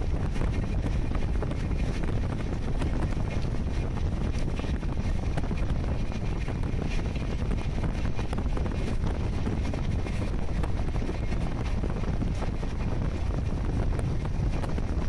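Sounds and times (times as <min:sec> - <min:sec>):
train carriage rumble: 0:00.0 - 0:15.0
wind buffeting microphone: 0:00.0 - 0:15.0.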